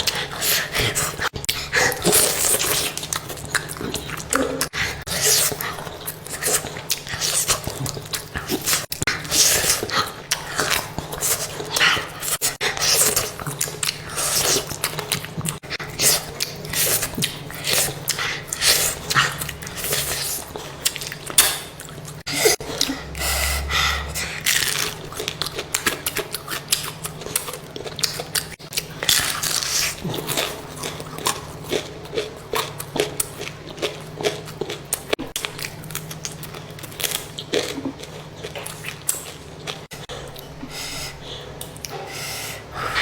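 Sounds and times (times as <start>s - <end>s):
chewing: 0.0s - 42.1s.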